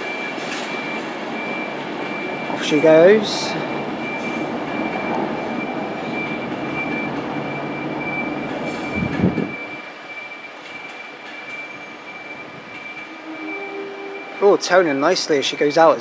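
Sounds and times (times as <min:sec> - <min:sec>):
electric train pulling out: 0:00.0 - 0:16.0.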